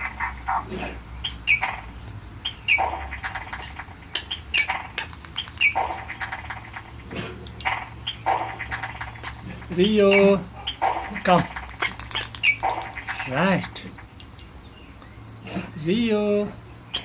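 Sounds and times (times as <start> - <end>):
parrot chick chirping and rasping: 0.0 - 15.4.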